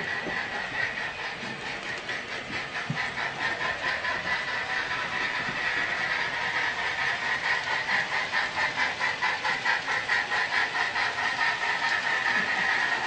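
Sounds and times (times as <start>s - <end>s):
model train running: 0.0s - 13.0s.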